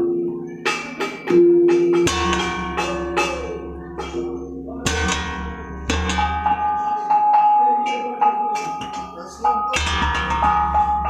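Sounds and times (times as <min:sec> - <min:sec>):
gamelan bronze notes ringing: 0:00.0 - 0:11.0.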